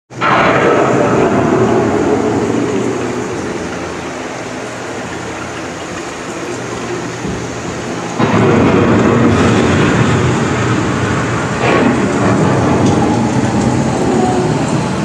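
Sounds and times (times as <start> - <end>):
rain rushing: 0.1 - 15.0
thunder rumbling: 0.1 - 15.0.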